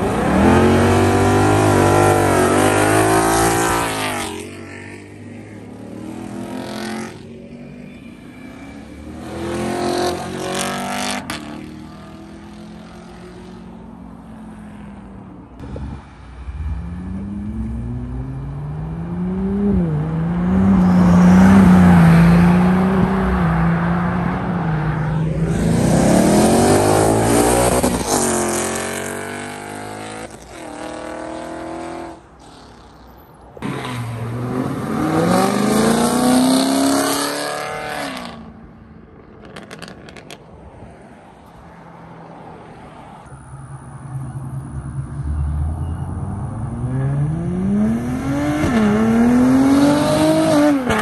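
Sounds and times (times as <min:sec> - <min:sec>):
cars accelerating past revving: 0:00.0 - 0:07.4, 0:08.5 - 0:13.8, 0:15.6 - 0:38.6, 0:44.9 - 0:51.0.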